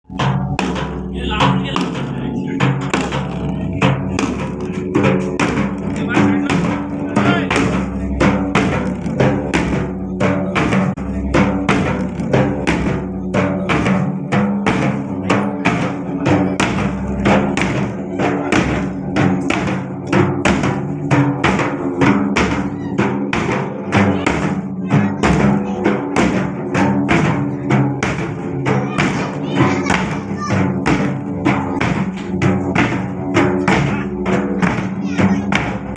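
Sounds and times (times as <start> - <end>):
drums beating fast rhythm: 0.0 - 35.9.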